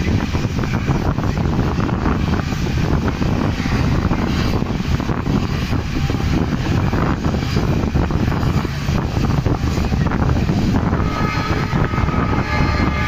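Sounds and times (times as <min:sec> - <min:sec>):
train wheels rumbling on rails: 0:00.0 - 0:13.0
wind buffeting microphone: 0:00.0 - 0:13.0.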